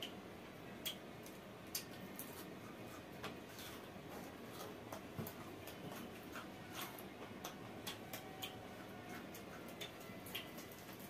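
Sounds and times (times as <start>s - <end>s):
chewing and lip-smacking: 0.8s - 11.0s.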